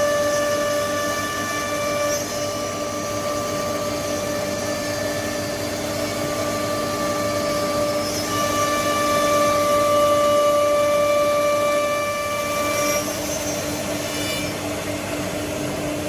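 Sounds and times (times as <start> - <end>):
router high whine: 0.0 - 15.8.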